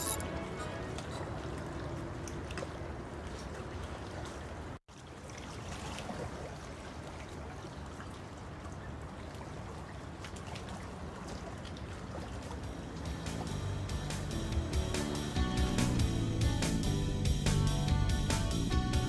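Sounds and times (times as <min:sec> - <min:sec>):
water splashing and trickling: 0:00.0 - 0:15.4.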